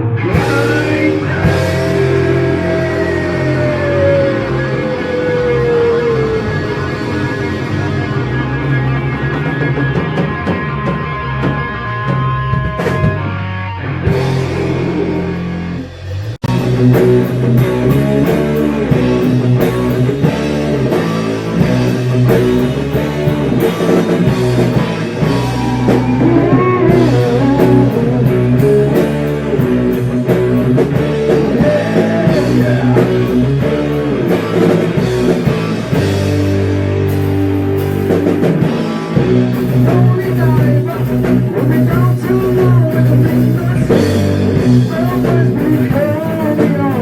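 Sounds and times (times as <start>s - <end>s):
steady drum beat: 0.0s - 13.4s, 14.1s - 47.0s
heavy metal band playing: 0.0s - 47.0s.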